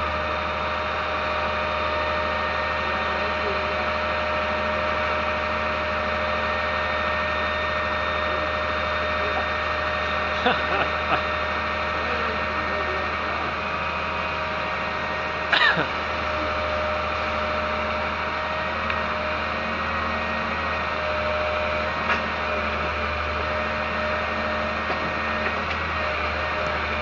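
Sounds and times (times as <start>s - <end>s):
motor droning steadily: 0.0s - 27.0s.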